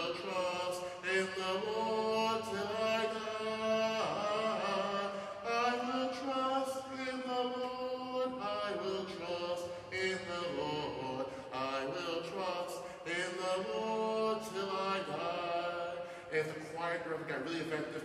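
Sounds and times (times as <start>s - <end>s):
man singing chant-like melody: 0.0s - 18.0s.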